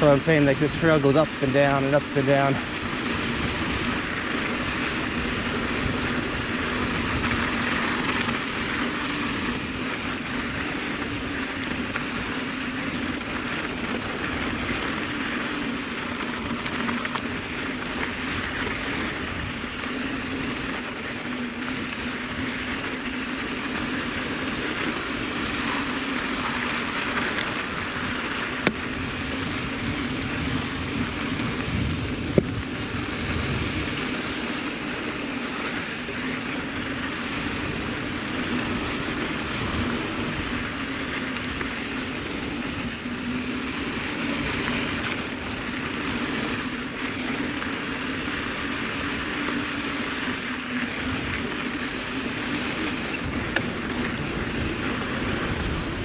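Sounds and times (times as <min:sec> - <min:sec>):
tyres rumbling on dirt: 0:00.0 - 0:56.0
wind noise on microphone: 0:00.0 - 0:56.0.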